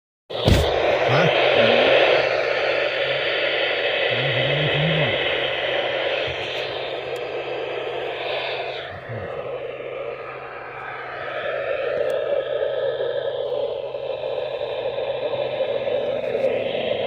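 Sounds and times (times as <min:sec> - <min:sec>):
radio static hiss: 0:00.3 - 0:17.0.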